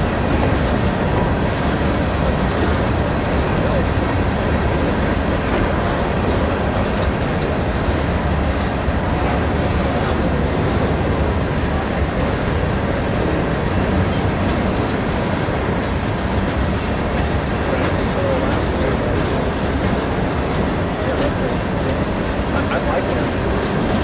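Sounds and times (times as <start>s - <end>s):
freight train rolling past: 0.0s - 24.0s.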